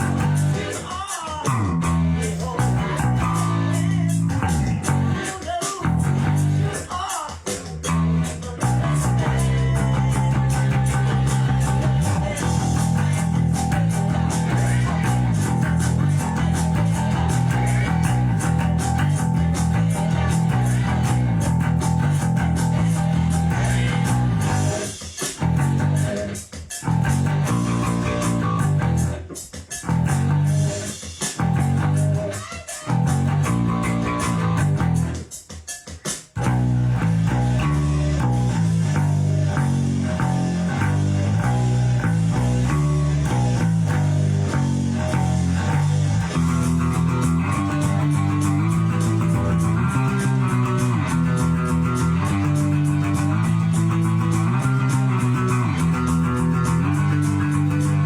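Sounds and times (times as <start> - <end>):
electric bass guitar: 0.0 - 35.4, 36.0 - 58.0
hard-rock band recording: 0.0 - 58.0.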